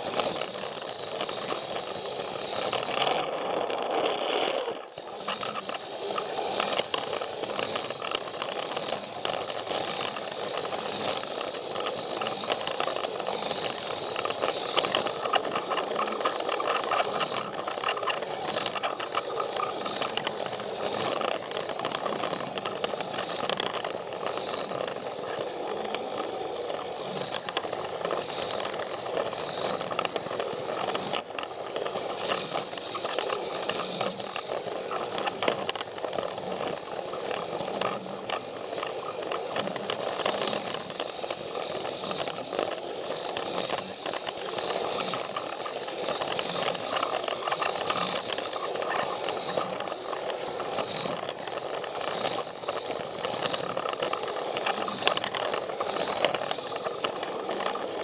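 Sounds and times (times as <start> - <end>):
toy train motor whirring: 0.0 - 58.0
wheels clattering over track: 0.0 - 58.0.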